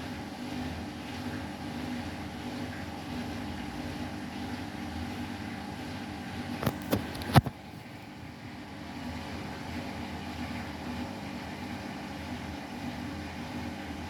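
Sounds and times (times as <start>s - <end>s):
washing machine spinning: 0.0s - 14.0s.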